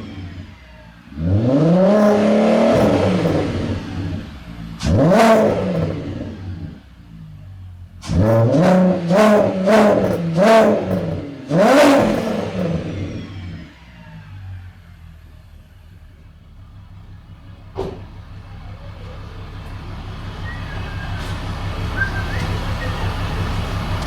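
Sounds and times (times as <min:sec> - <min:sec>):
car engine revving and idling: 0:00.0 - 0:24.0.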